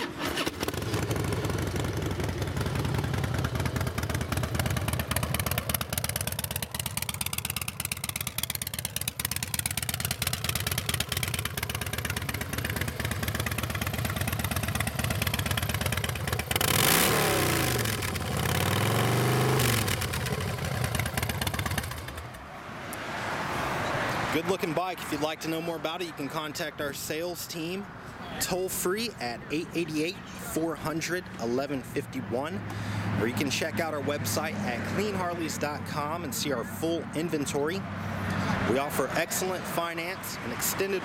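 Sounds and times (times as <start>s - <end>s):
motorcycle engine idling and revving: 0.0s - 22.6s, 29.2s - 41.0s.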